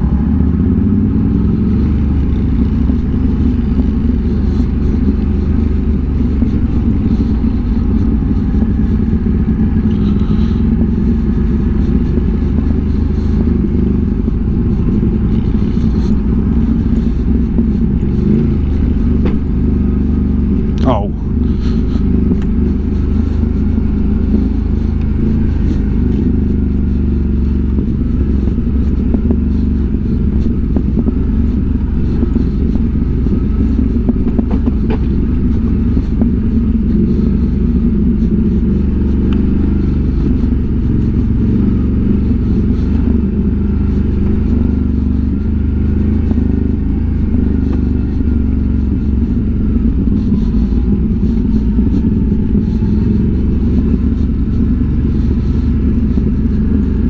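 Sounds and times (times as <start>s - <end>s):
quad engine droning: 0.0s - 57.0s.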